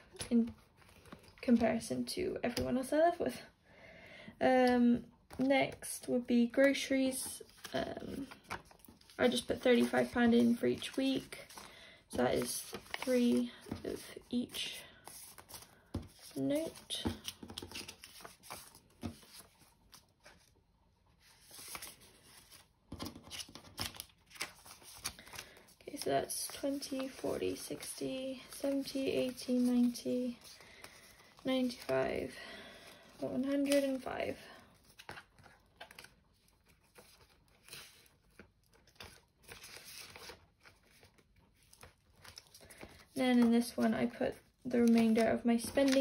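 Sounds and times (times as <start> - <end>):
banknotes rustling: 0.1 - 2.1, 5.3 - 20.6, 21.2 - 46.0
plastic envelope crinkling: 6.6 - 20.6, 21.3 - 46.0.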